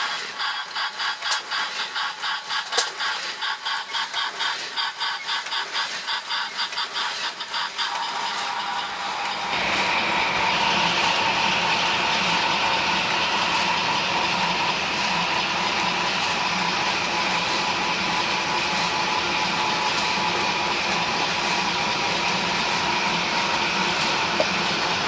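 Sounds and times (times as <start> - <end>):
machine noise with high whine: 0.0 - 25.0.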